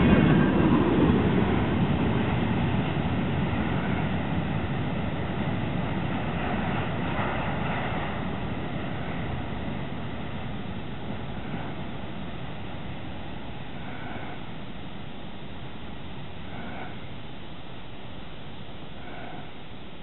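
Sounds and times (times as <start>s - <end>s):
train wheels rolling on rails: 0.0s - 17.4s.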